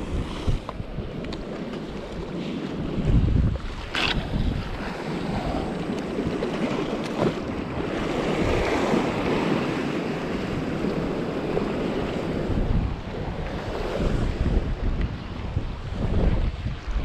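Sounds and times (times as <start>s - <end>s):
waves washing against rocks: 0.0s - 17.0s
wind buffeting microphone: 0.0s - 17.0s.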